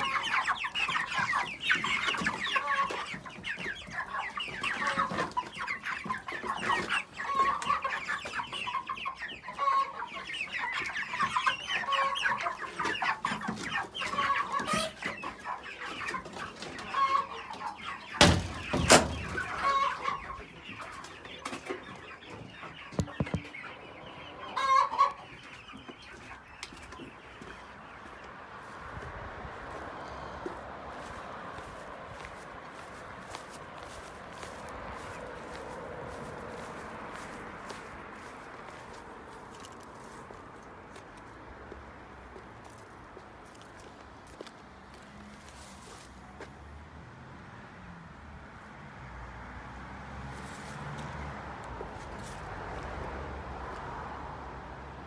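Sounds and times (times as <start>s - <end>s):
chickens clucking: 0.0s - 46.6s, 49.8s - 55.0s.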